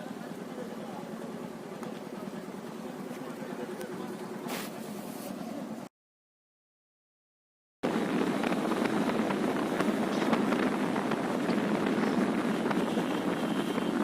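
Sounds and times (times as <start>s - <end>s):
wind and road noise: 0.0s - 5.9s, 7.8s - 14.0s.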